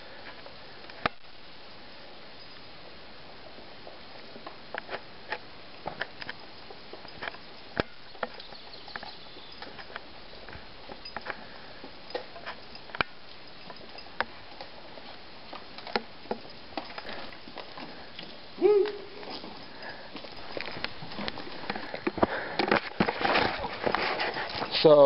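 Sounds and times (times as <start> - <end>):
footsteps on rocky trail: 3.3 - 25.0.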